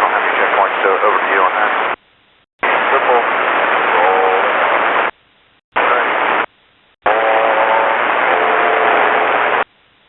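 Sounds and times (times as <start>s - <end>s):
radio static hiss: 0.0s - 2.0s, 2.6s - 5.2s, 5.8s - 9.7s
faint garbled radio tones: 0.0s - 9.7s.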